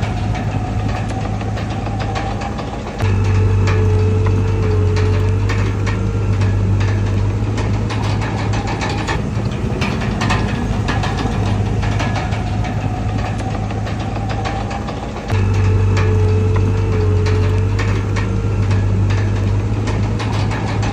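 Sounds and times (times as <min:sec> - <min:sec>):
bulldozer diesel engine running: 0:00.0 - 0:20.9
metallic clanks and knocks: 0:00.0 - 0:20.9.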